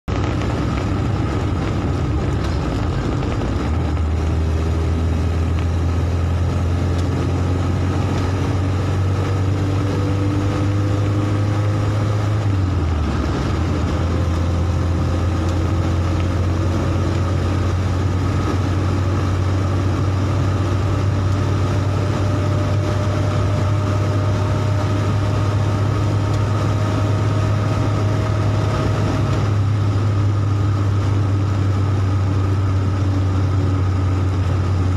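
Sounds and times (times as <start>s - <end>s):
car engine and tyre drone: 0.0s - 34.9s.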